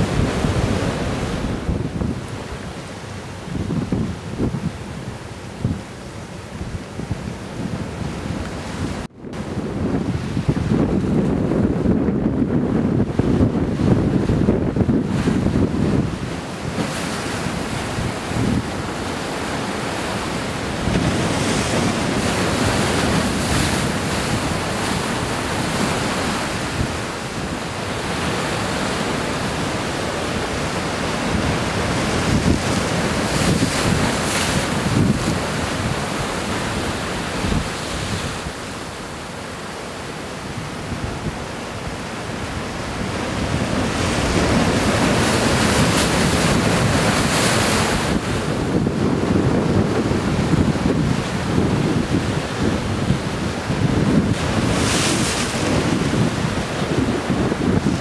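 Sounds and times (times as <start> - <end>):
wind buffeting microphone: 0.0 - 58.0
waves washing against rocks: 9.9 - 58.0.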